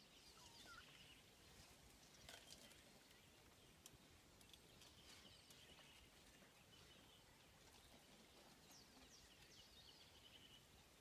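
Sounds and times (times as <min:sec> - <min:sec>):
faint bird chirps: 0:00.0 - 0:02.3, 0:03.0 - 0:11.0.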